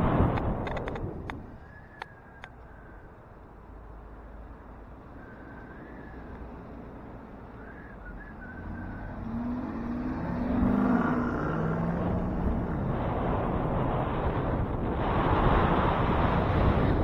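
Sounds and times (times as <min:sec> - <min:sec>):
road and wind noise: 0:00.0 - 0:17.0
vehicle engine approaching: 0:00.0 - 0:17.0.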